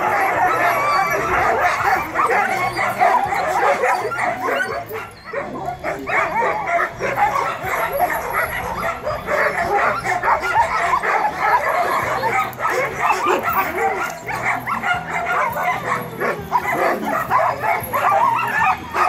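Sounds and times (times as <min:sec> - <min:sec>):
dogs barking and yipping: 0:00.0 - 0:19.0.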